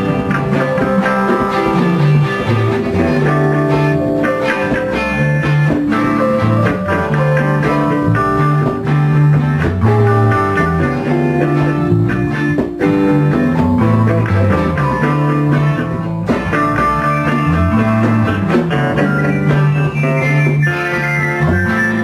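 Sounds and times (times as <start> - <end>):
bass line: 0.0 - 22.0
guitar playing: 0.0 - 22.0.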